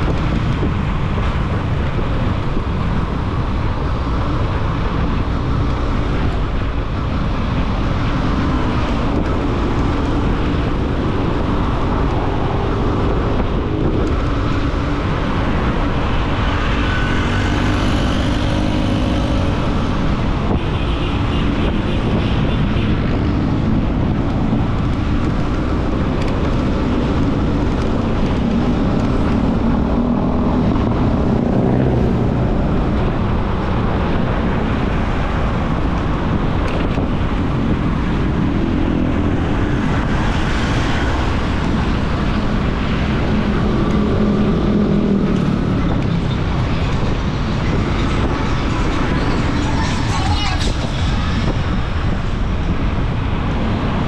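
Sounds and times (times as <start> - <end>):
road traffic: 0.0 - 54.0
wind rushing over microphone: 0.0 - 54.0.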